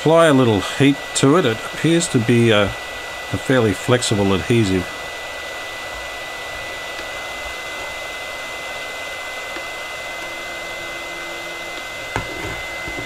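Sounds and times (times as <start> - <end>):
hot air gun blowing: 0.0 - 13.0.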